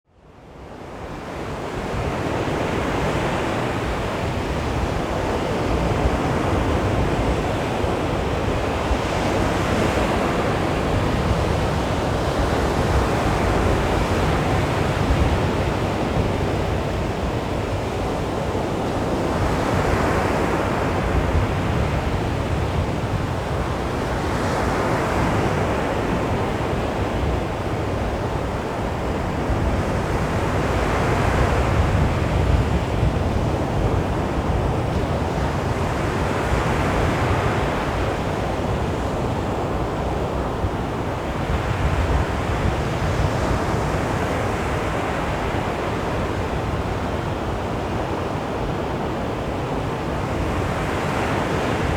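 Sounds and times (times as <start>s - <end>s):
sea waves breaking on a beach: 0.4s - 51.9s.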